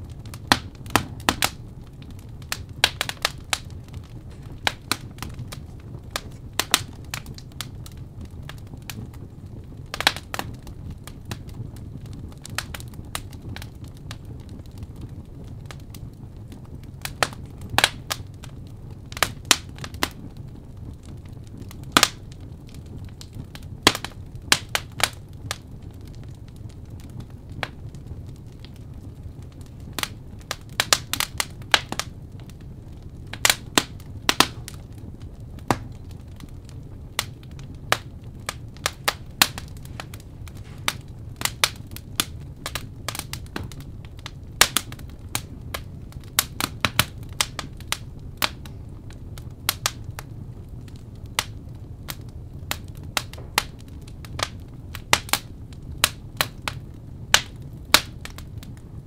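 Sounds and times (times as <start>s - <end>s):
low steady rumble: 0.0s - 59.0s
wood fire crackling: 0.0s - 59.0s.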